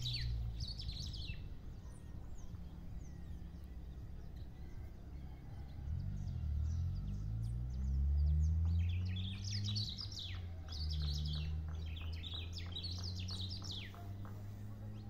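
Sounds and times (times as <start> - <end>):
low steady drone: 0.0 - 15.0.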